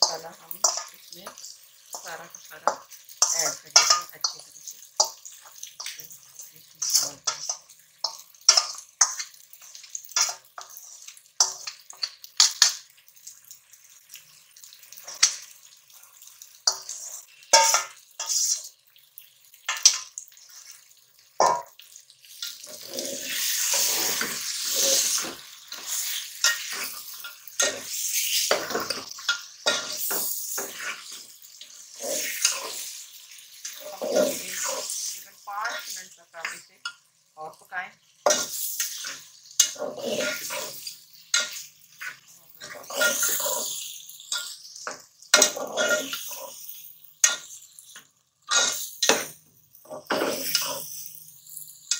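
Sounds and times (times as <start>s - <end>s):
metal spatula scraping a pot: 0.0s - 12.8s, 14.7s - 18.7s, 19.7s - 37.0s, 38.2s - 51.9s
frying sizzle: 0.0s - 51.9s.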